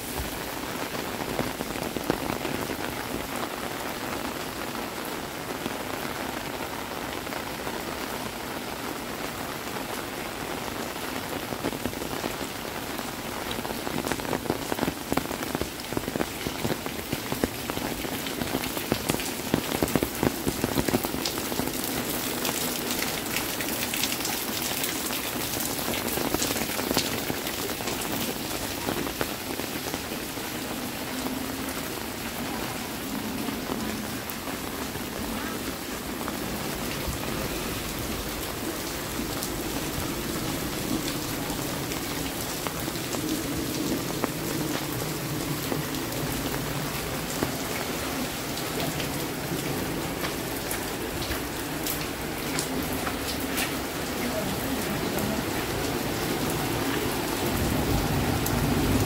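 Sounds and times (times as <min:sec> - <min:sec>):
rain on wet pavement: 0:00.0 - 0:59.0.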